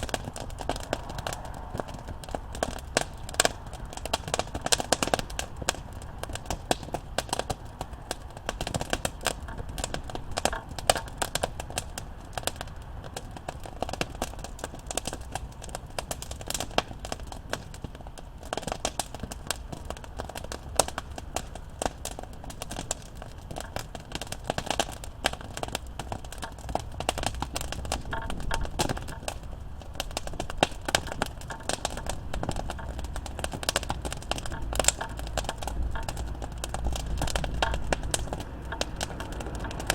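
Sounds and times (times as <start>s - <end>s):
campfire crackling: 0.0s - 39.9s
low rumble of flames: 0.0s - 39.9s
wood popping and snapping: 0.0s - 39.9s.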